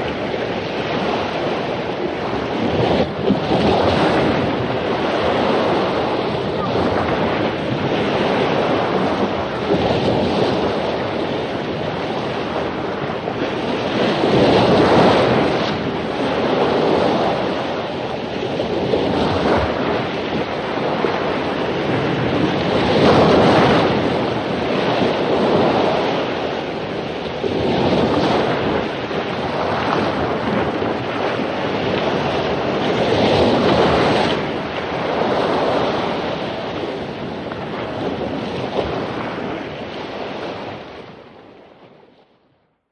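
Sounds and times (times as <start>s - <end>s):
waves crashing on beach: 0.0s - 42.4s.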